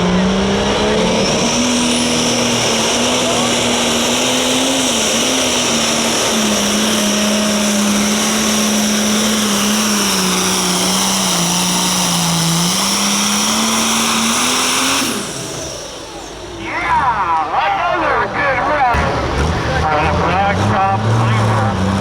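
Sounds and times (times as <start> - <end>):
diesel tractor engine at full load: 0.0 - 22.0.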